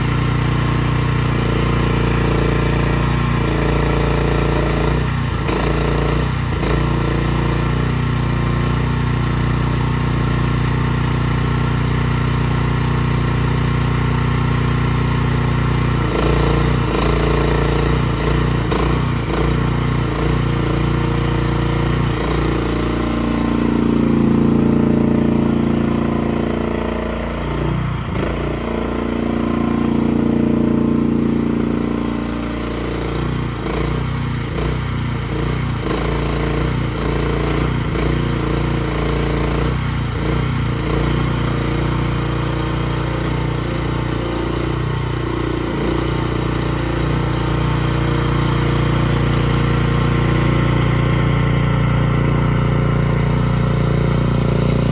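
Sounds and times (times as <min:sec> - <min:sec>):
small gasoline engine running: 0:00.0 - 0:54.9.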